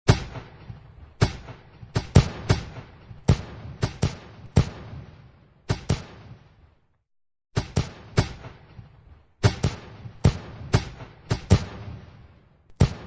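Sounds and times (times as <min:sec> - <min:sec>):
fireworks bangs: 0:00.1 - 0:06.9, 0:07.6 - 0:13.0.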